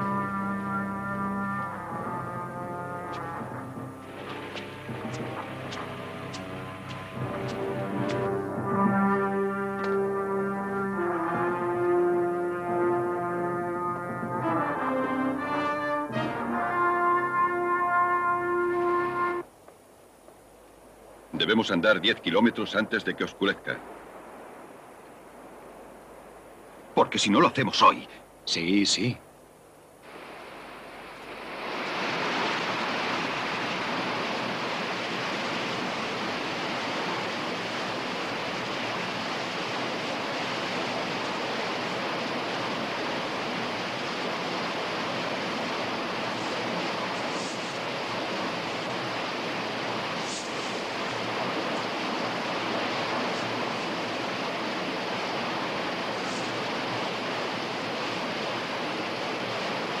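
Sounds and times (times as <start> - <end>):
river rushing over rapids: 0.0 - 19.5, 29.9 - 60.0.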